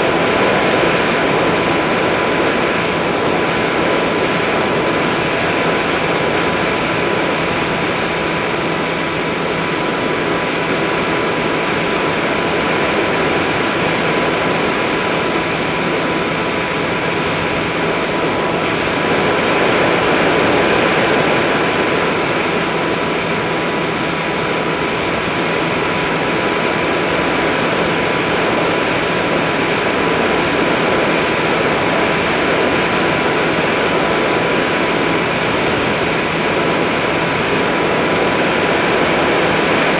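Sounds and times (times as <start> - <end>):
electric motor drone and whine: 0.0 - 39.9.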